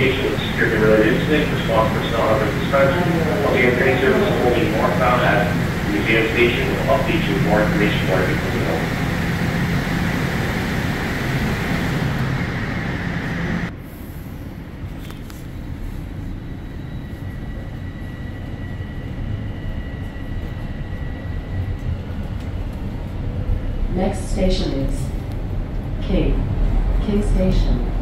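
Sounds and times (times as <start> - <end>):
subway train running rumble: 0.0 - 28.0.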